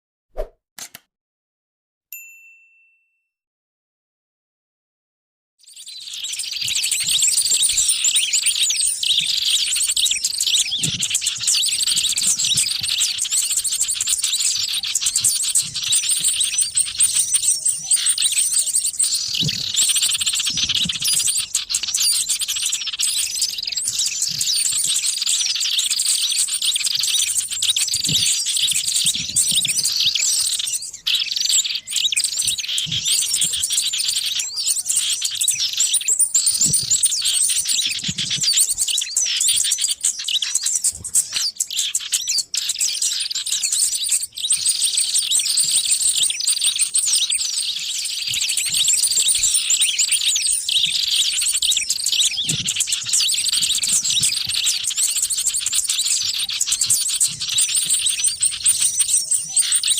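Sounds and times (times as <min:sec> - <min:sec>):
small birds chirping: 0:05.6 - 0:59.9.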